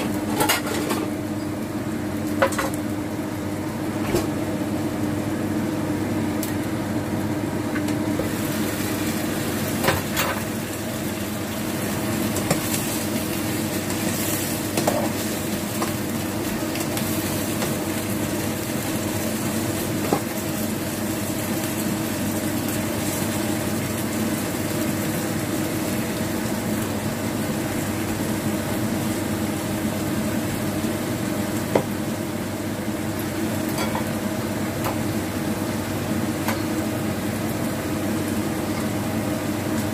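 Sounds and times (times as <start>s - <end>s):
vegetables sizzling in a frying pan: 0.0s - 39.9s.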